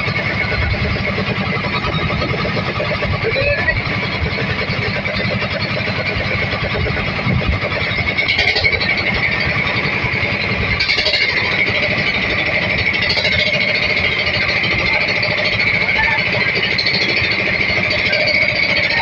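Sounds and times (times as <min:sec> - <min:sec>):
boat engine running: 0:00.0 - 0:19.0
high whine: 0:00.0 - 0:19.0.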